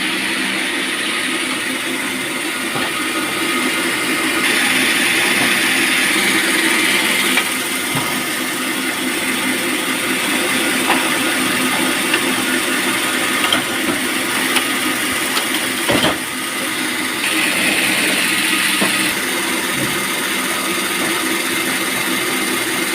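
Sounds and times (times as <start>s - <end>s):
saw hissing while cutting: 0.0s - 13.3s, 16.3s - 22.8s
band sawmill machine hum: 0.0s - 22.9s.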